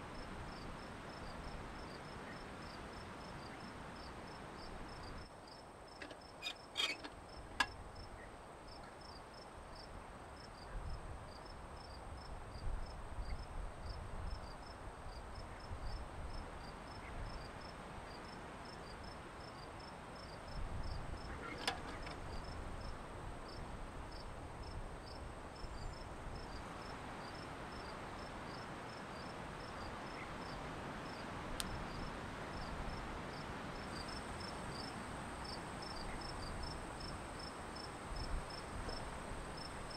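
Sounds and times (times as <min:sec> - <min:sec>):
cricket chirping: 0:00.2 - 0:39.9.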